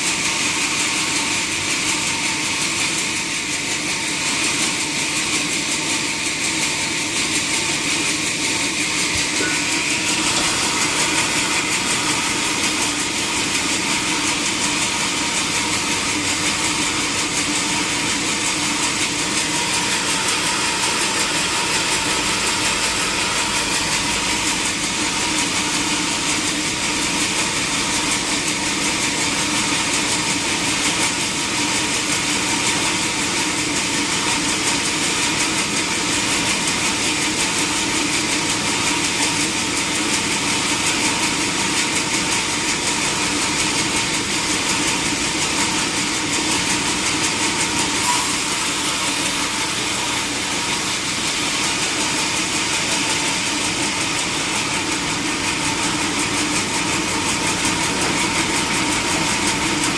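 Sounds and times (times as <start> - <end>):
sawmill machinery motor drone: 0.0 - 59.9.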